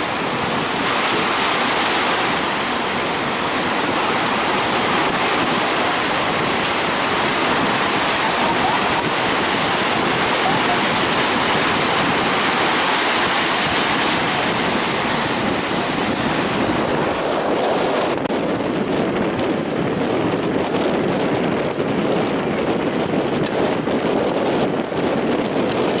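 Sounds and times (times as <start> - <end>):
sea surf breaking: 0.0 - 26.0
wind buffeting microphone: 0.0 - 26.0.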